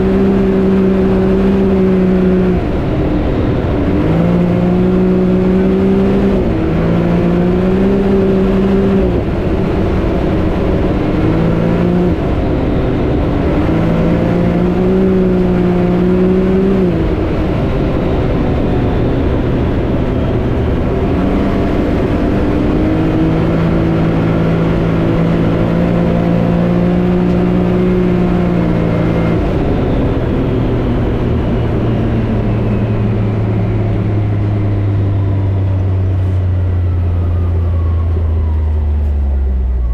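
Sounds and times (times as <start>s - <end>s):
turbocharged engine revving: 0.0s - 39.9s.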